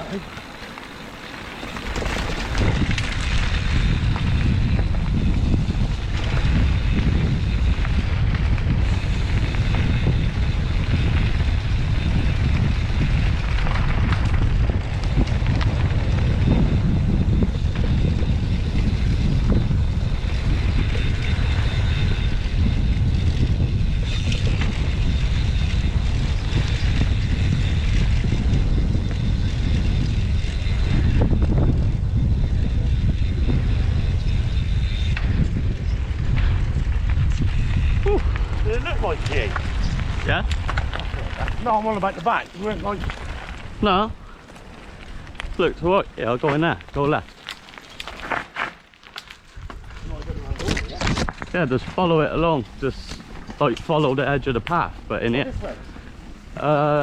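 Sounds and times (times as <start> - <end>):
bike rattles and knocks: 0.0 - 57.0
wind rumble on microphone: 0.0 - 57.0.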